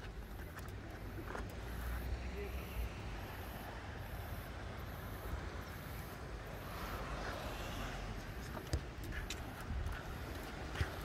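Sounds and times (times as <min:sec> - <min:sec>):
steady outdoor hiss: 0:00.0 - 0:11.0
wind rumbling on microphone: 0:00.0 - 0:11.0.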